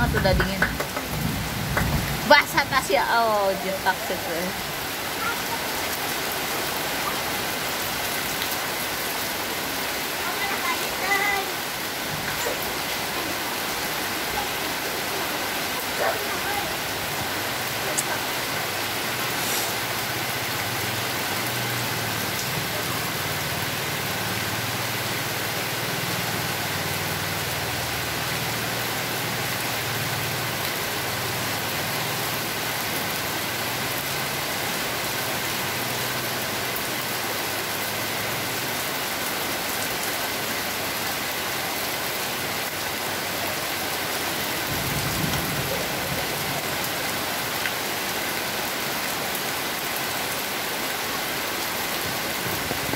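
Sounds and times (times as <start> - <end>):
heavy rain on wet paving: 0.0 - 52.9.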